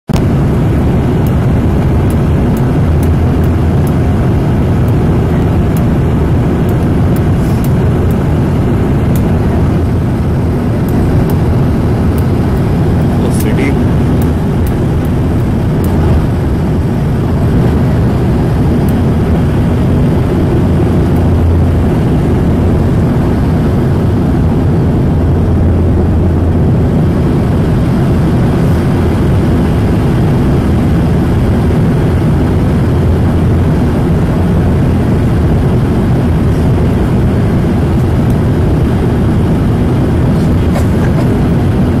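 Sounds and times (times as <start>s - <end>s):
turboprop engine drone in cabin: 0.0s - 42.0s.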